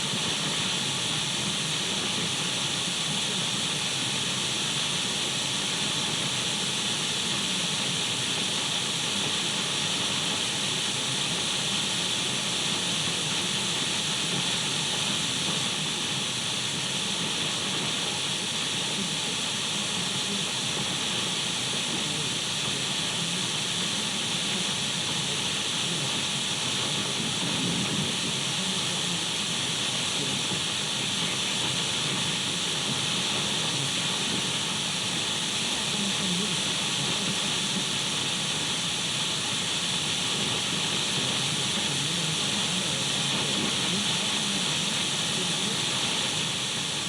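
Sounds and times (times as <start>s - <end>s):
radio static hiss: 0.0s - 47.0s.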